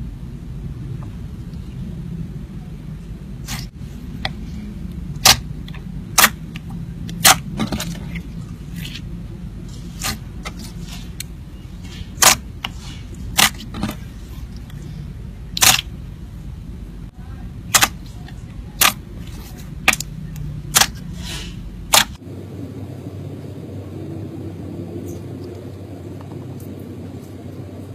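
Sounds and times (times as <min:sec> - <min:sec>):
low background hum: 0:00.0 - 0:27.9.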